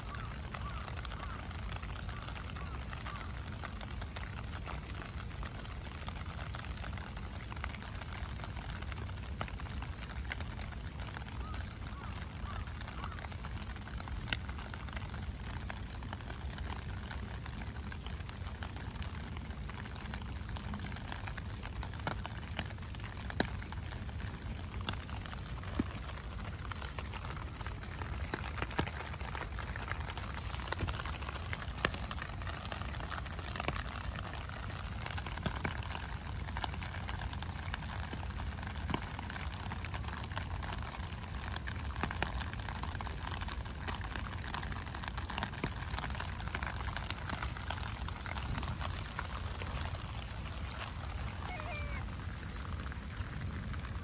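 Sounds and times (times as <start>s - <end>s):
heavy rain falling: 0.0s - 54.0s
raindrops ticking close by: 0.0s - 54.0s.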